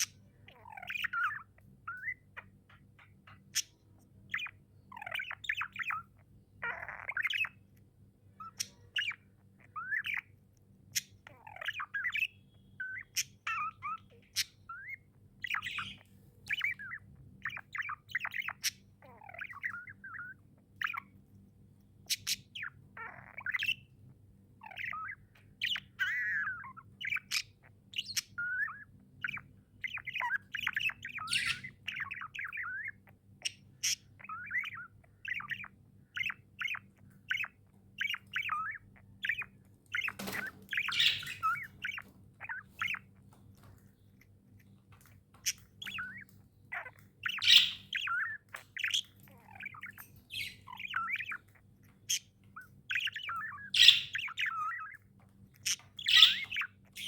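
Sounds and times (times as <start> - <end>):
budgies chirping and chattering: 0.0 - 57.0.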